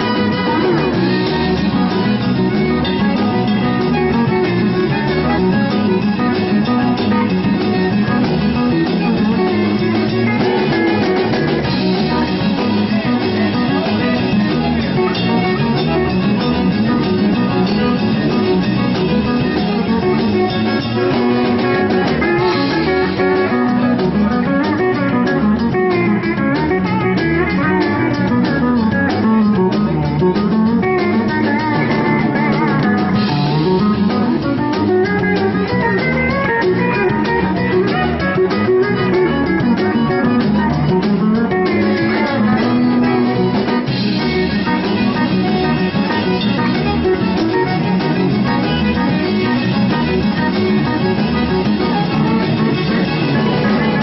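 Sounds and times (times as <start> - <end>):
band music with guitar and drums: 0.0 - 54.0.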